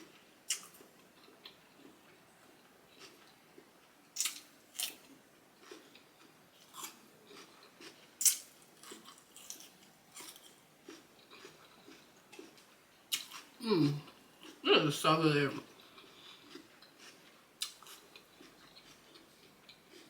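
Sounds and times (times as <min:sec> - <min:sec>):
crisp chewing crunches: 0:00.0 - 0:14.6, 0:15.7 - 0:20.0.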